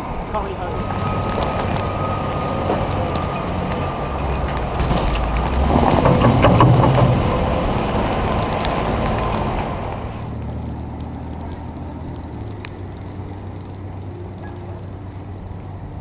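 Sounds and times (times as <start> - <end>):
low rumble with faint hum: 0.0 - 16.0
snow loader machine noise: 0.0 - 16.0.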